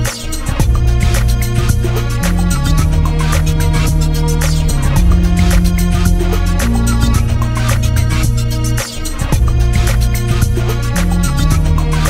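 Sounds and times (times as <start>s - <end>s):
drum loop: 0.0s - 12.0s
hi-hat pattern: 0.0s - 12.0s
organ bass line: 0.0s - 12.0s
string lead: 0.0s - 12.0s.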